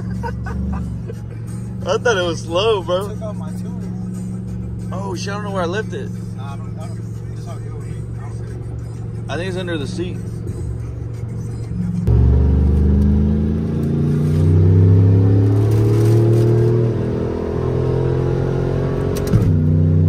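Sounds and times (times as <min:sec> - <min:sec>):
truck engine accelerating: 0:00.0 - 0:20.0.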